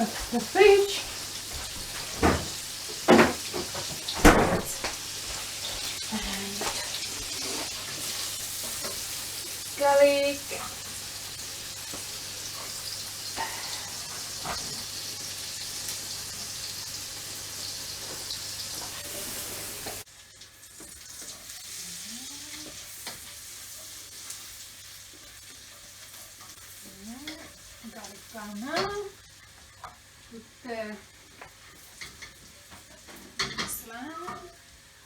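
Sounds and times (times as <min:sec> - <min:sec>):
garlic sizzling in hot oil: 0:00.0 - 0:35.0.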